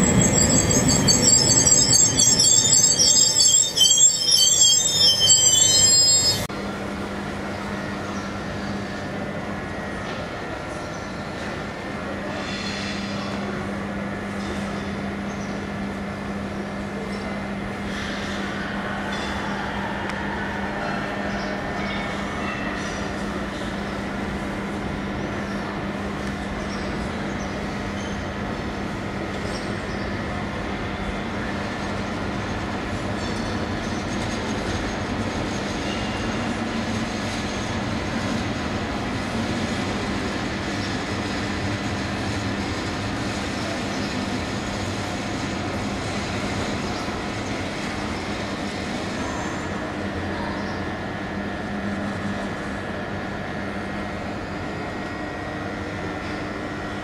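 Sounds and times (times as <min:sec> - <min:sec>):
train wheels rumbling on rail: 0:00.0 - 0:06.5, 0:07.3 - 0:57.0.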